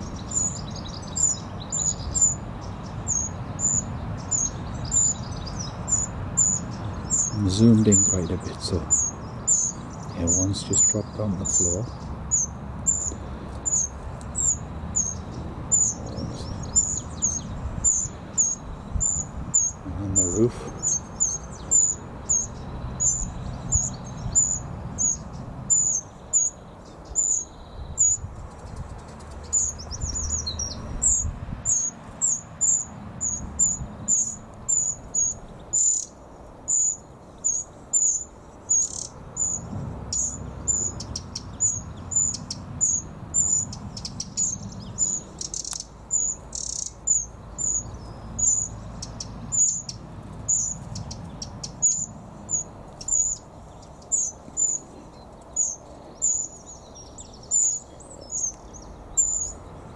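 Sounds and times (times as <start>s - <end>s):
wren calling: 0.0s - 59.9s.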